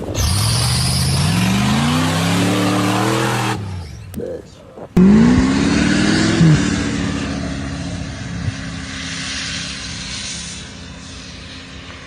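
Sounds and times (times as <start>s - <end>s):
engine at high revs: 0.0s - 4.4s, 5.0s - 12.0s.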